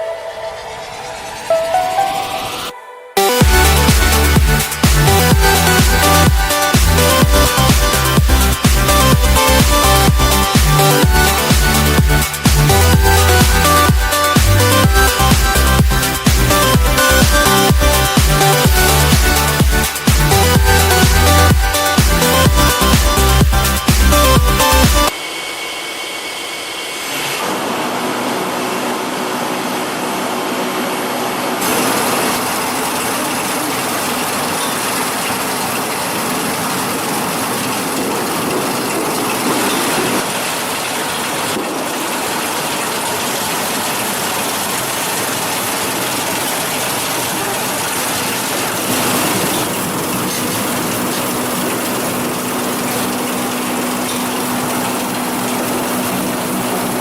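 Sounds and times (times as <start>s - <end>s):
machinery whirring: 0.0s - 57.0s
steady hum: 0.0s - 57.0s.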